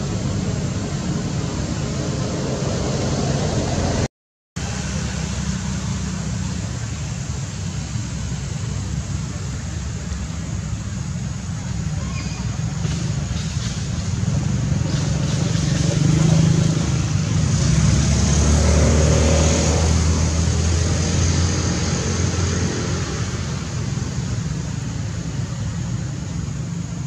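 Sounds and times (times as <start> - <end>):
vehicle engine passing by: 0.0 - 9.5, 11.5 - 27.0.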